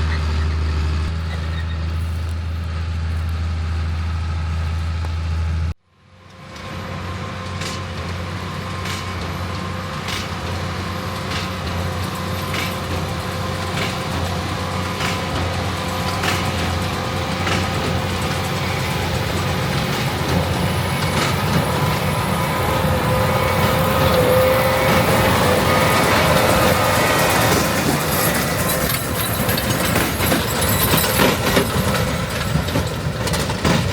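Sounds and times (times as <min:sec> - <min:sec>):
farm machinery engine hum: 0:00.0 - 0:33.9.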